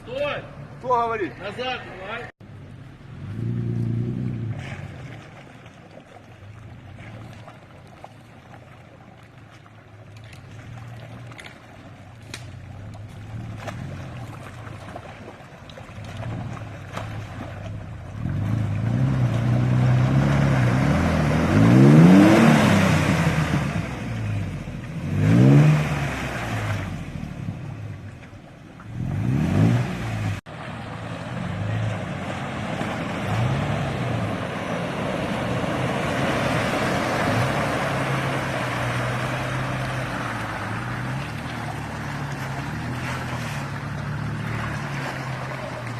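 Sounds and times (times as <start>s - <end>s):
off-road vehicle engine revving: 0.0s - 5.3s, 12.2s - 15.0s, 15.9s - 28.1s, 28.8s - 45.9s.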